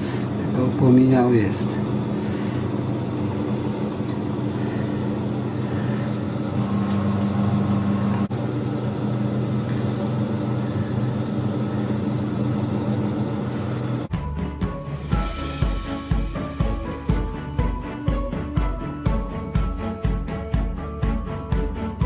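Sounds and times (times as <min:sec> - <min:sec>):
burner blower running: 0:00.0 - 0:22.0.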